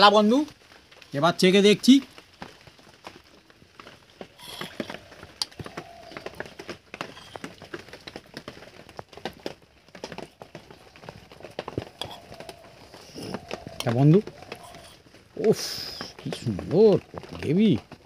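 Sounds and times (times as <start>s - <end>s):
eating and chewing smacks: 2.4s - 17.4s.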